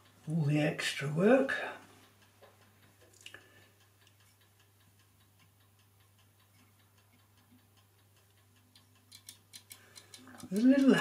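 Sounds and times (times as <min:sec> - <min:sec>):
clock ticking rapidly: 0:00.0 - 0:11.0.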